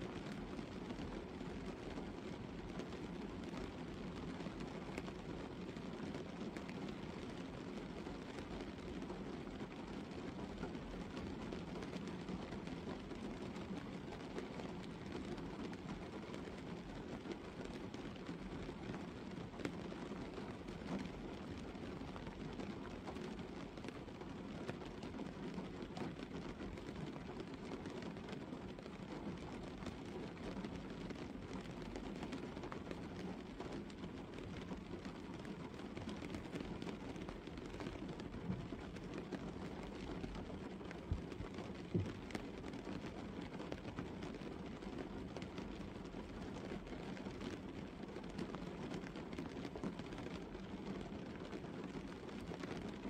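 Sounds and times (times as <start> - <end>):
rain on car windscreen: 0.0 - 53.0.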